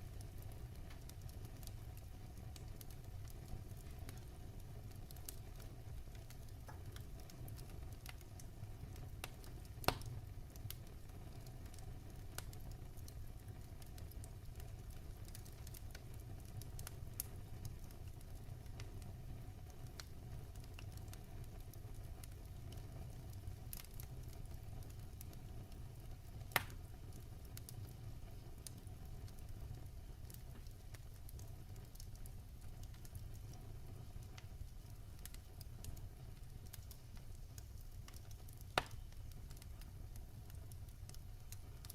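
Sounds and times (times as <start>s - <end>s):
fire crackling in fireplace: 0.0s - 41.9s
fire popping: 0.0s - 41.9s.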